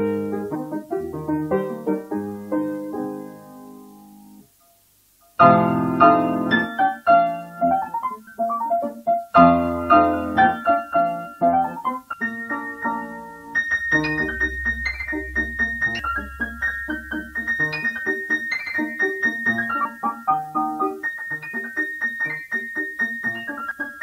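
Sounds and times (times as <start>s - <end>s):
solo piano: 0.0s - 24.0s.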